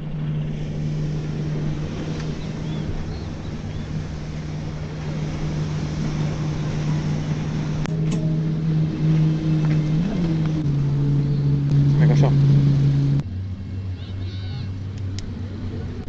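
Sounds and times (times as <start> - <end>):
low engine drone: 0.0 - 16.0
outdoor noise: 0.0 - 16.0.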